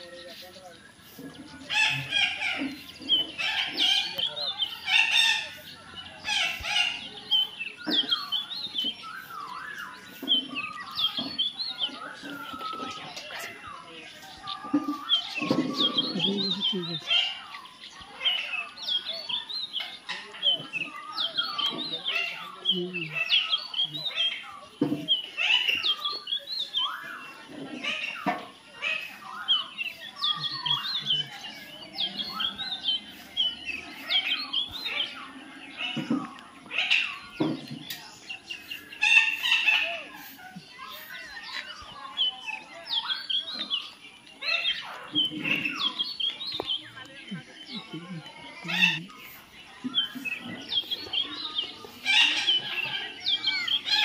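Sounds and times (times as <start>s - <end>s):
parakeets chirping and squawking: 0.0s - 54.0s.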